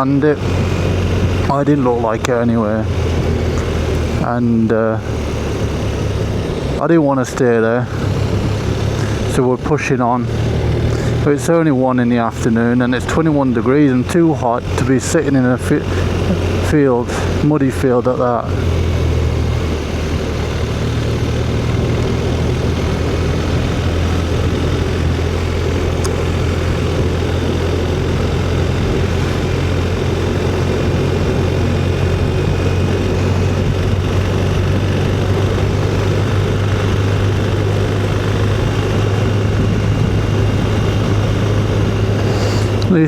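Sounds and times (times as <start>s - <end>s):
motorcycle engine cruising: 0.0s - 43.0s
wind and road noise: 0.0s - 43.0s.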